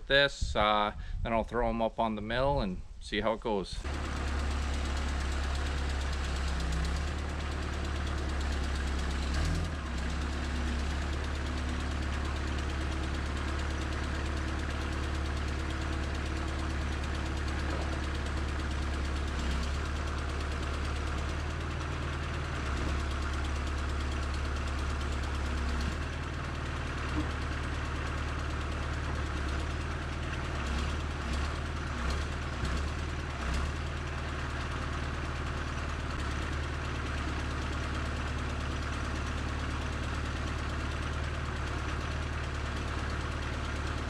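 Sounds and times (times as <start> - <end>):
diesel engine running: 3.8 - 44.0.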